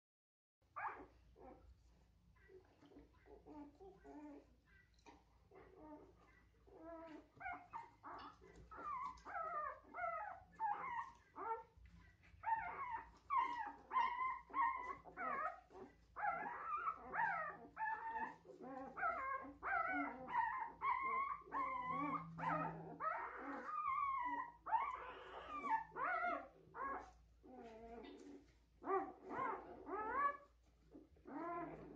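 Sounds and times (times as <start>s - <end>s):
puppies squealing and whimpering: 5.6s - 31.9s.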